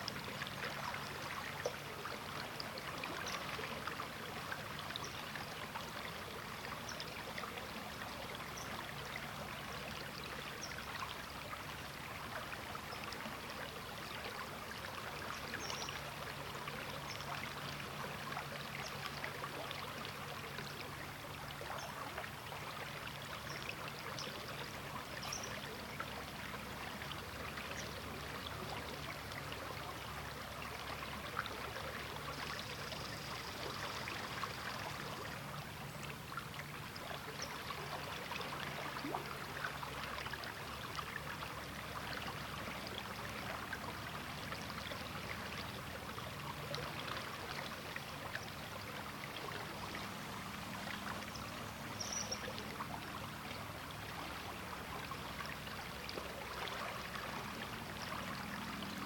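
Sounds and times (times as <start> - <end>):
river water babbling: 0.0 - 59.0.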